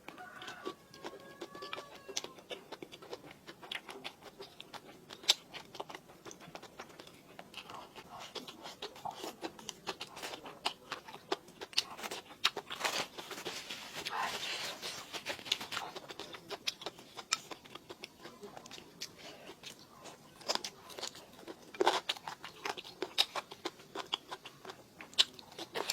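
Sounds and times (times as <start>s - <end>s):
person chewing food: 0.0s - 25.9s.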